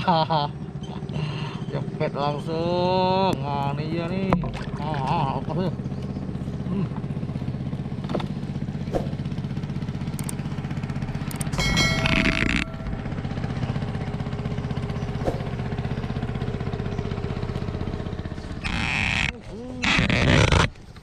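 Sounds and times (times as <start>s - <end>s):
boat engine throbbing: 0.0s - 21.0s.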